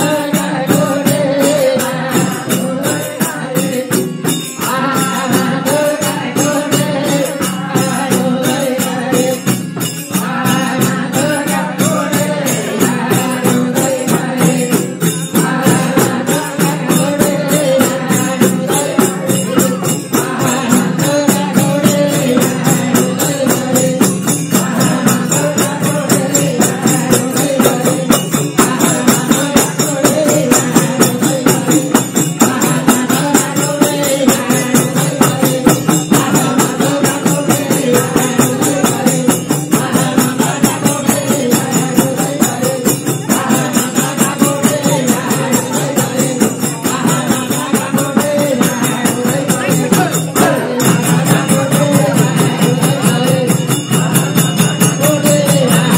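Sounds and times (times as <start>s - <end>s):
hand percussion: 0.0s - 55.9s
jingling cymbals: 0.0s - 55.9s
voices chanting a devotional song: 0.0s - 55.9s.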